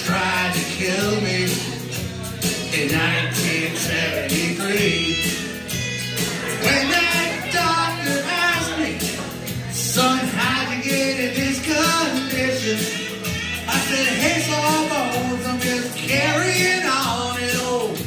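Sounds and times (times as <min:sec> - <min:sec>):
country-rock backing music: 0:00.0 - 0:18.0
man singing into microphone: 0:00.0 - 0:18.0.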